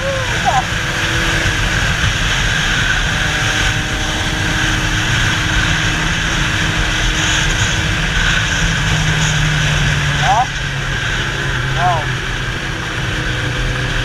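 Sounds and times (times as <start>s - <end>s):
motorcycle engine running: 0.0s - 14.0s
wind rush on microphone: 0.0s - 14.0s.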